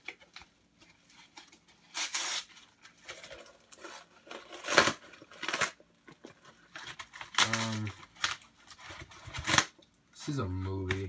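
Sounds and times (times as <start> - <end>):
packaging rustling: 0.0 - 9.8.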